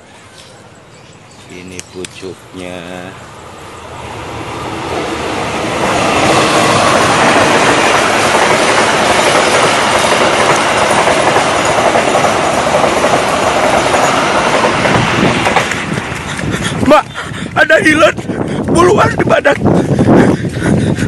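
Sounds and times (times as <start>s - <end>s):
loud steady rushing noise: 2.4s - 21.0s.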